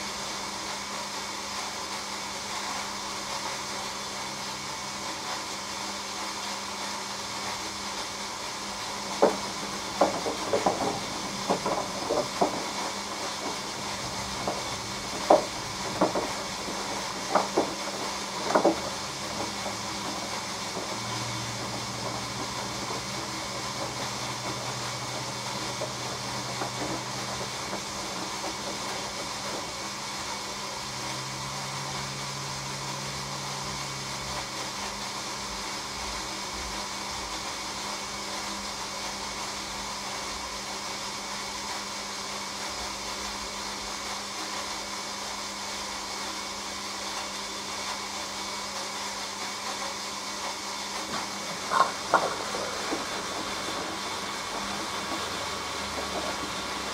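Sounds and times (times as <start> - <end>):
washing machine hiss: 0.0 - 56.9.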